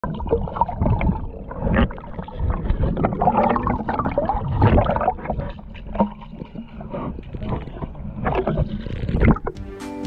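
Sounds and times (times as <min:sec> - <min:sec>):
underwater gurgling and bubbles: 0:00.0 - 0:09.6.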